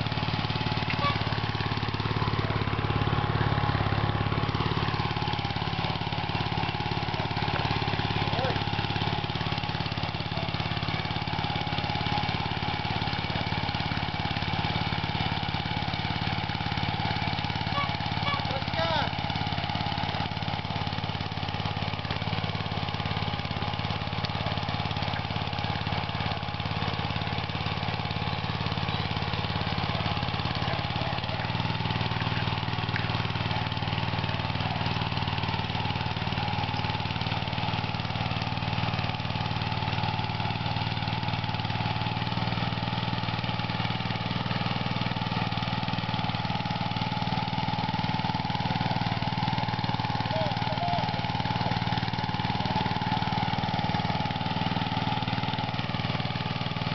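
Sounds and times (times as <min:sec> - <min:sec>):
rotary tiller engine running: 0:00.0 - 0:56.9.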